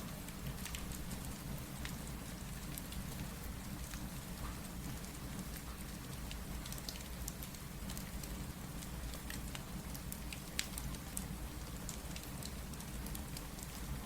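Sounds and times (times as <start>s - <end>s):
steady rain: 0.0s - 14.0s
wood fire crackling and popping: 0.1s - 14.0s.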